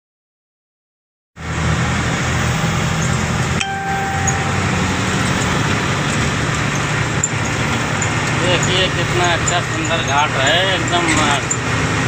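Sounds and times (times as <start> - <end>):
road noise: 1.4 - 12.0
truck engine running: 1.4 - 12.0.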